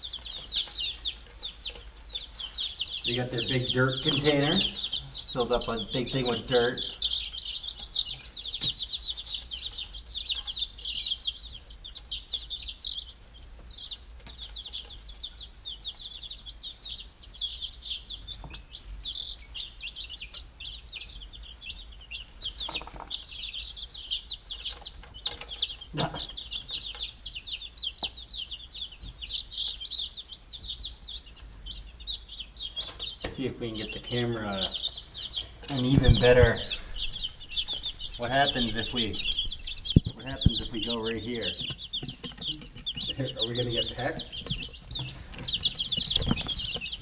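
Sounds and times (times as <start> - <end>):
chicks peeping: 0.0 - 47.0.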